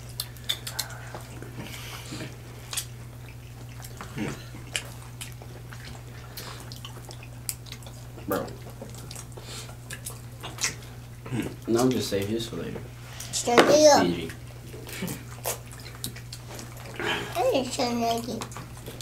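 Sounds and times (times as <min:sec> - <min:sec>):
low steady hum: 0:00.0 - 0:19.0
people eating with wet smacks: 0:00.0 - 0:19.0.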